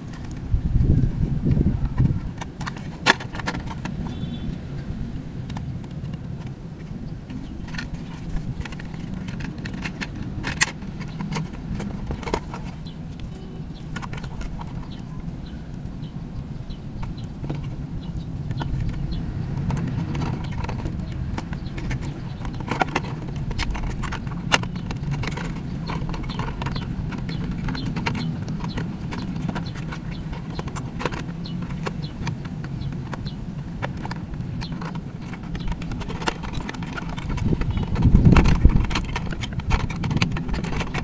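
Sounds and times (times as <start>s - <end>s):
plastic clicks and knocks: 1.4s - 4.5s, 5.5s - 16.0s, 17.0s - 17.8s, 18.4s - 41.0s.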